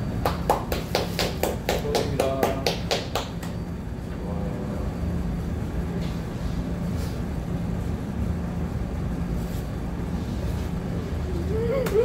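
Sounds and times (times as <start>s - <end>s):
restaurant room hum: 0.0s - 12.0s.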